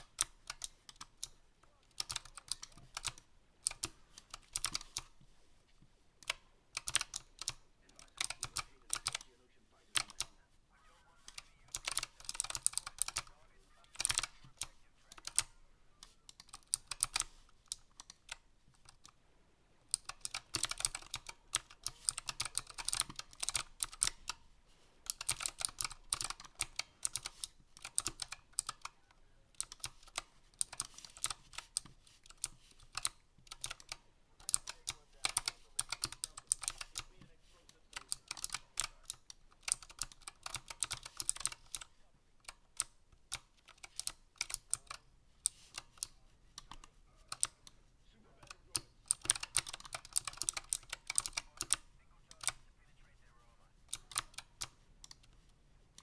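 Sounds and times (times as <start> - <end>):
keyboard keystroke clicks: 0.0 - 5.2, 6.2 - 9.2, 11.2 - 19.2, 19.9 - 24.4, 25.0 - 37.1, 37.9 - 47.8, 48.4 - 52.6, 53.9 - 55.4.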